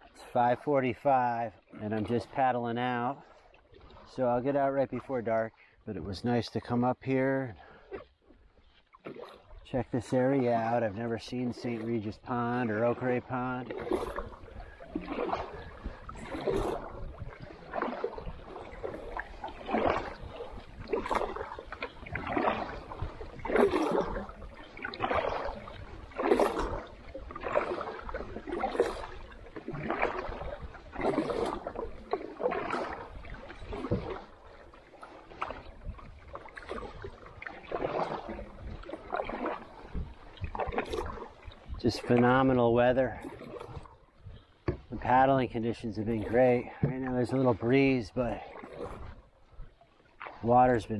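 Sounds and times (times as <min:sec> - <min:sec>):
paddle splashing in water: 0:00.0 - 0:50.9.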